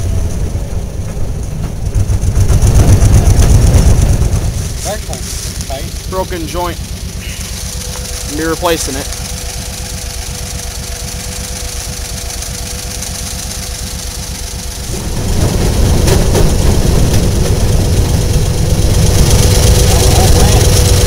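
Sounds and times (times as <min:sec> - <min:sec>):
railroad motorcar engine: 0:00.0 - 0:21.0.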